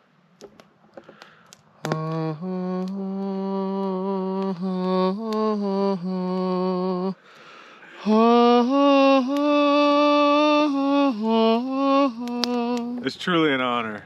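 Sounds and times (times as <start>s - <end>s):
person singing long held notes: 1.8s - 13.2s.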